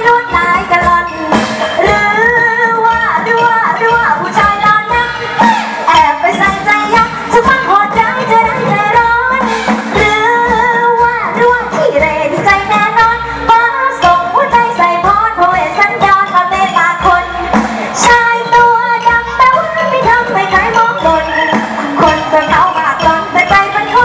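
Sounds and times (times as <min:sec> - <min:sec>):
amplified backing music: 0:00.0 - 0:24.0
woman singing into microphone: 0:00.0 - 0:24.0.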